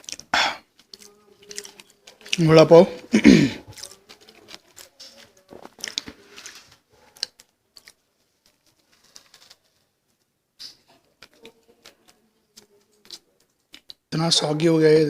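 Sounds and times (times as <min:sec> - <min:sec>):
person chewing food: 0:00.0 - 0:14.1.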